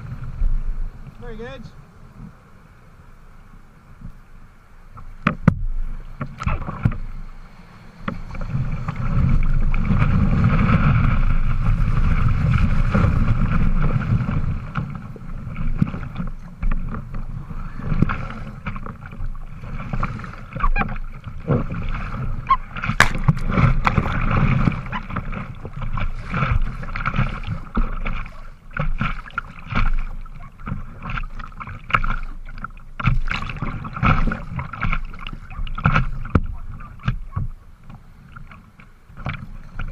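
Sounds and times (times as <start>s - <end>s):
breaking waves: 0.0s - 3.8s, 4.4s - 39.9s
paddle strokes: 0.0s - 39.9s
water splashing around kayak: 0.0s - 39.9s.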